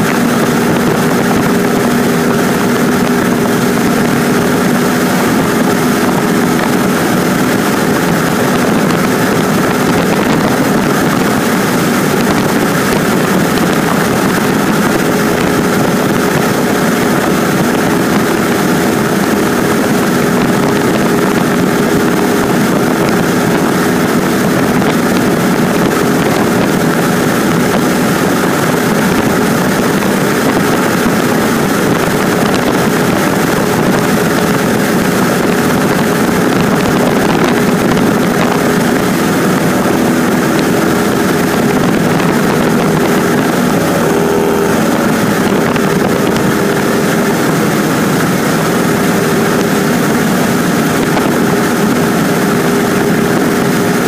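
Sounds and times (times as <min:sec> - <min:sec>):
airplane engine droning: 0:00.0 - 0:54.0
rush of air: 0:00.0 - 0:54.0.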